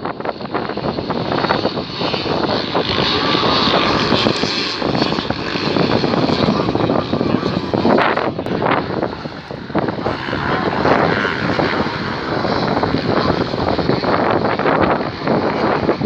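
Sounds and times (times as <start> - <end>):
motorcycle engines revving: 1.1 - 16.0.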